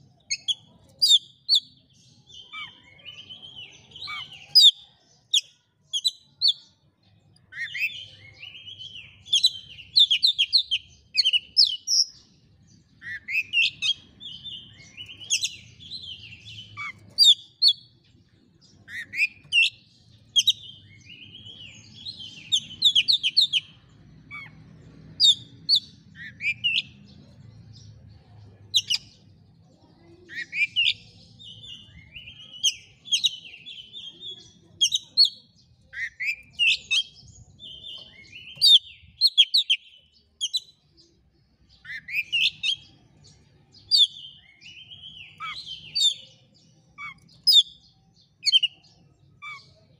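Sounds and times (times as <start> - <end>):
bird singing varied song: 0.0 - 49.9.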